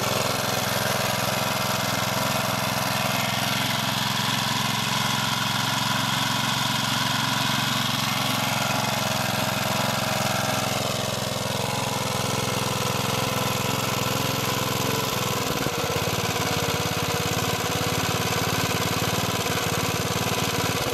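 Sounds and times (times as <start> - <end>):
lawn mower engine running: 0.0 - 20.9.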